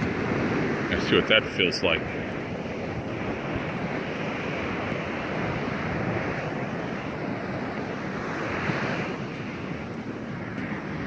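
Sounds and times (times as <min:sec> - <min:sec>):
ocean surf rushing: 0:00.0 - 0:11.0
wind on microphone: 0:00.0 - 0:11.0.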